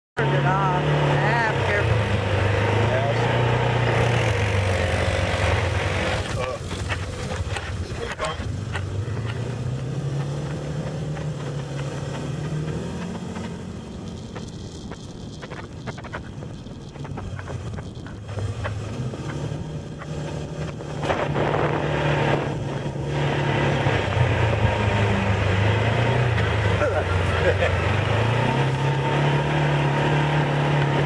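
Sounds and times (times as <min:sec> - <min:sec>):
off-road vehicle engine running: 0:00.2 - 0:31.0
wind buffeting microphone: 0:01.3 - 0:31.0.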